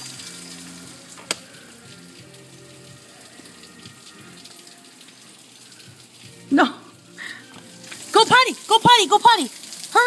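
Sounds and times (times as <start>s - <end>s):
rain falling with a hiss: 0.0s - 10.0s.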